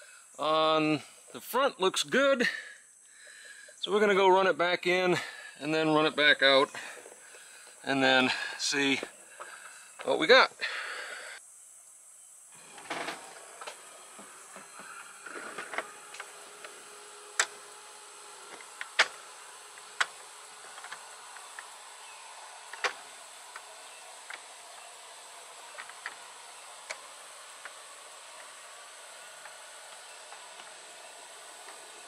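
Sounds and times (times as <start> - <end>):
faint electric motor hum: 0.0 - 32.0.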